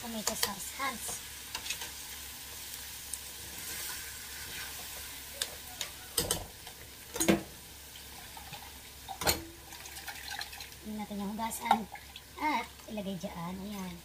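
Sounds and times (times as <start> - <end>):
meat sauce sizzling in pan: 0.0 - 14.0.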